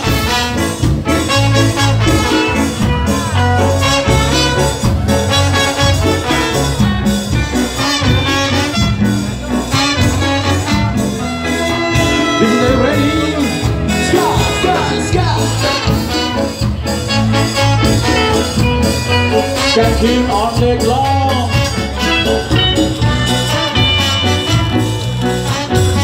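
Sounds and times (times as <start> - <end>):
bass: 0.0 - 26.0
drums: 0.0 - 26.0
electric guitar: 0.0 - 26.0
horn section melody: 0.0 - 26.0.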